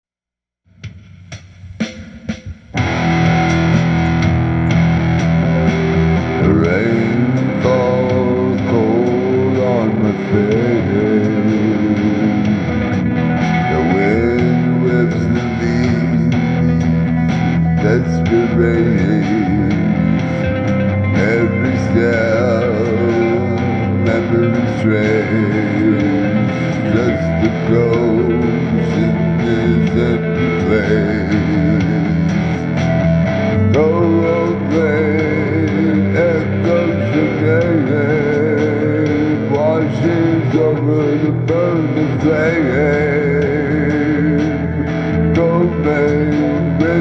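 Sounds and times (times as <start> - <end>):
band playing instrumental: 1.8 - 47.0
bending lead guitar line: 2.8 - 47.0
plucked guitar notes: 2.8 - 47.0.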